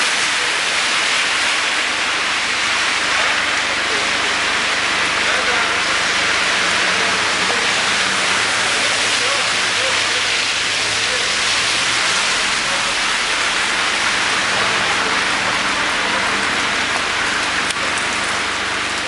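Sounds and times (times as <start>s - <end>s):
rain on street and car roofs: 0.0s - 19.0s.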